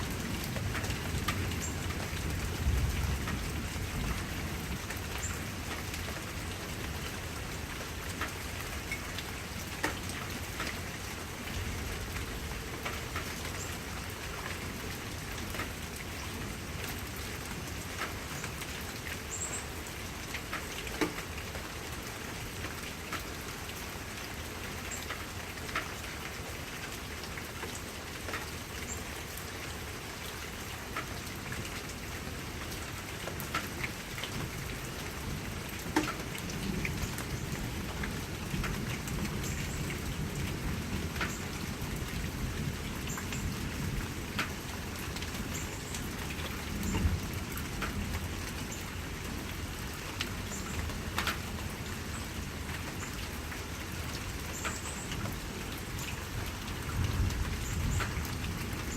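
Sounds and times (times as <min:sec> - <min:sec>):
rain falling: 0:00.0 - 0:58.9
raindrops tapping a surface: 0:00.0 - 0:58.9.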